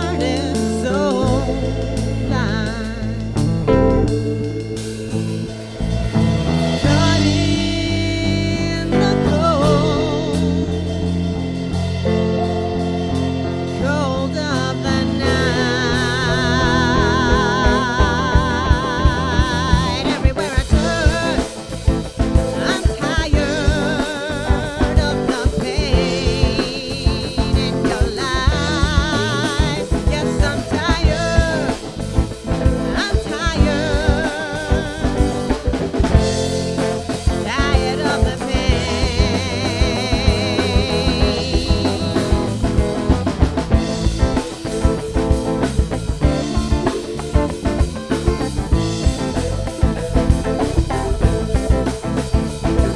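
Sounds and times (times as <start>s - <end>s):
drum kit beat: 0.0s - 52.9s
funk band music: 0.0s - 52.9s.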